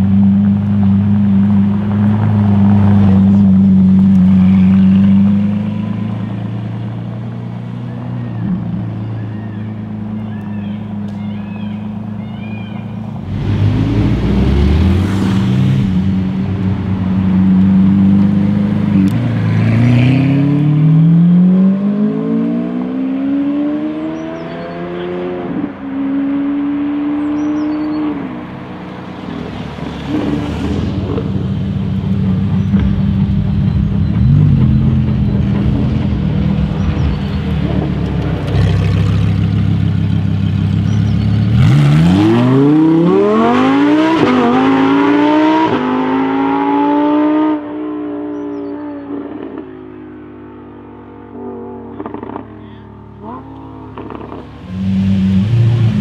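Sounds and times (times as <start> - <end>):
sports car engine accelerating: 0.0 - 12.2, 13.0 - 56.0
second car engine approaching: 0.0 - 56.0.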